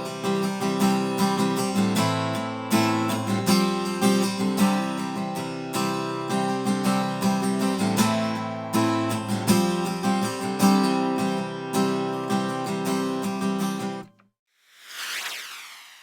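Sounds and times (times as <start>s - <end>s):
acoustic guitar strumming chords: 0.0s - 14.1s.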